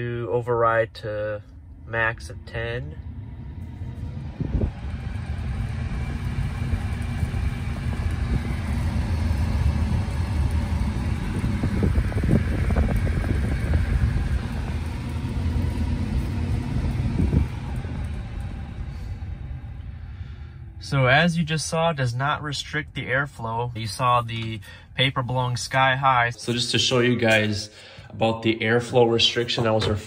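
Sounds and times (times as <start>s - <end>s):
car blower fan rushing air: 0.0s - 30.0s.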